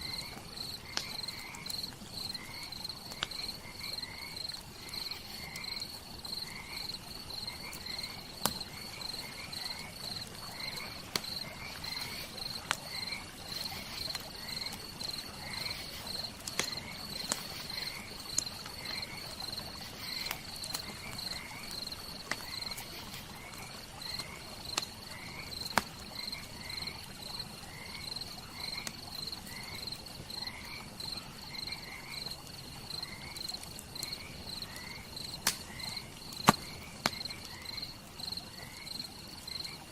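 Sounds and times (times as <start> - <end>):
campfire popping and crackling: 0.0 - 39.9
crickets chirping: 0.0 - 39.9.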